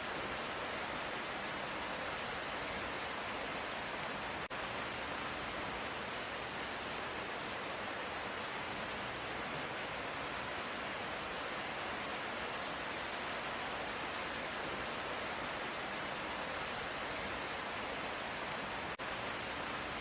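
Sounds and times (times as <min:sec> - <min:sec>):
light rain hiss: 0:00.0 - 0:20.0.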